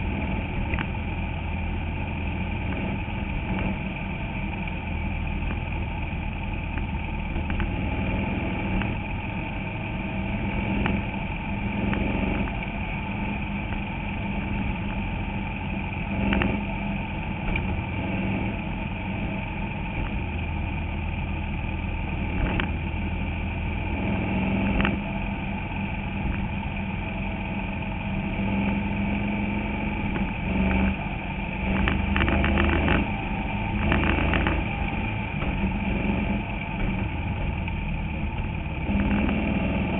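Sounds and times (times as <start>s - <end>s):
small race car engine running: 0.0s - 39.9s.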